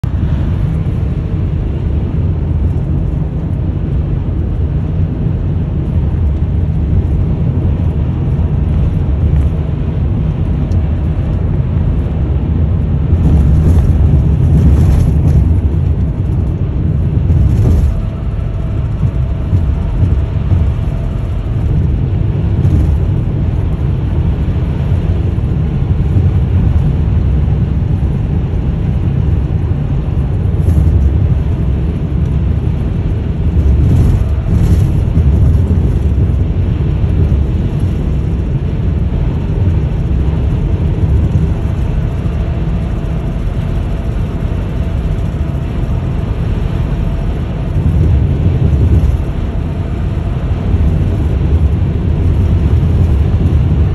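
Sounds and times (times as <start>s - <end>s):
car road noise rumble: 0.0s - 53.9s.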